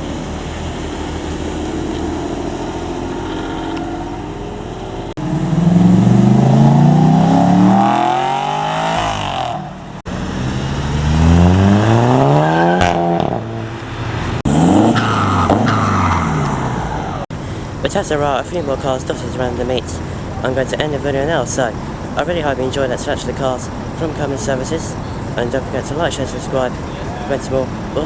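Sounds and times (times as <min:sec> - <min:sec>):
car engines accelerating: 0:00.0 - 0:28.0.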